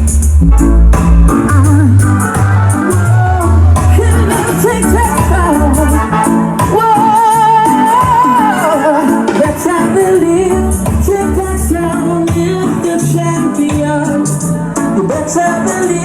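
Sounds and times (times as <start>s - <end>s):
heavy bass line: 0.0s - 16.0s
reggae singer's voice: 0.0s - 16.0s.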